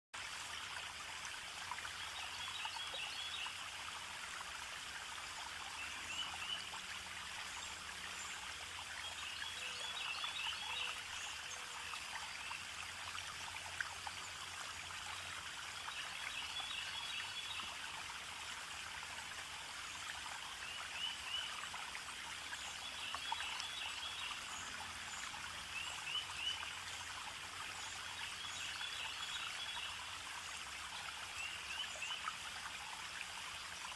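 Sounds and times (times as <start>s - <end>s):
stream trickling: 0.2s - 33.9s.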